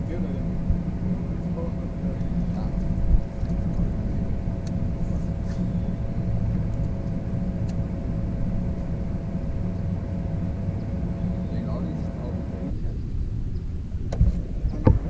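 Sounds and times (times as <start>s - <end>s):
faint steady hum: 0.0s - 15.0s
wind rumbling on microphone: 0.0s - 15.0s.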